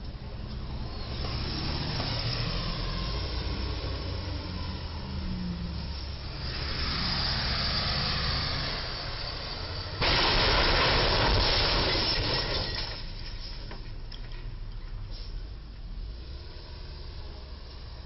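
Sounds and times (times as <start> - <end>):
street traffic passing: 0.0 - 18.0.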